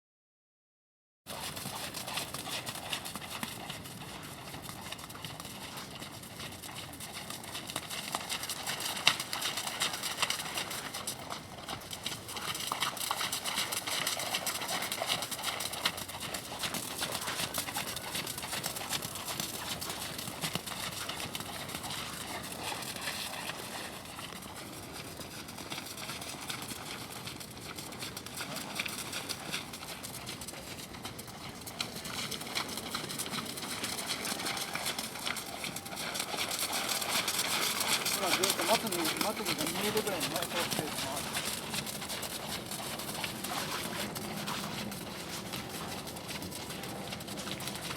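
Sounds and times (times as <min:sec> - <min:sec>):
horse hooves clip-clopping: 0:01.3 - 0:47.9.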